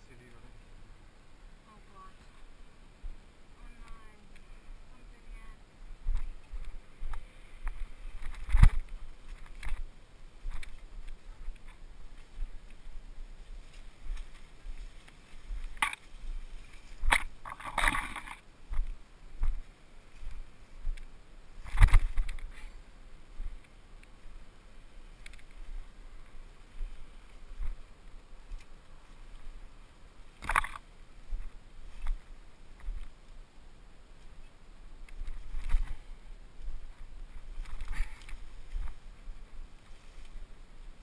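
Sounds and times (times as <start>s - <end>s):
leaves and branches brushing: 1.7s - 41.0s.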